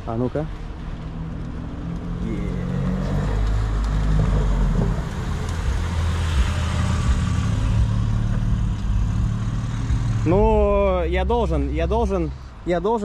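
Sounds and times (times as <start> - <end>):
car engine running at low revs: 0.1 - 12.4.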